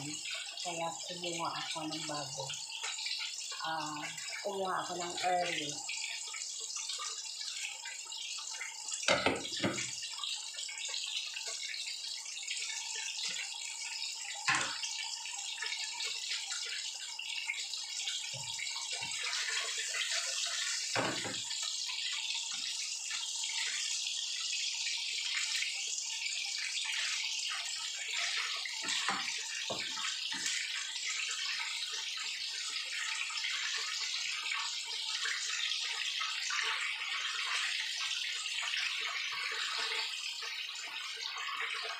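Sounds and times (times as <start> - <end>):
oil sizzling in frying pan: 0.0 - 41.9.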